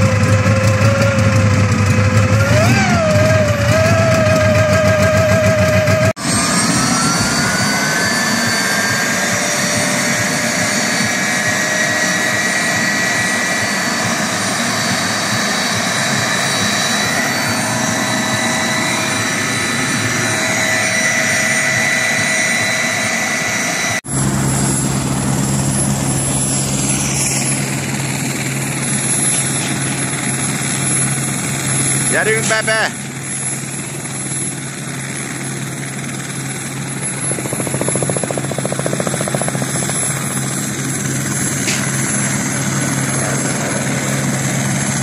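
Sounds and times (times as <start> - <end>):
turbine engine whine: 0.0 - 45.0.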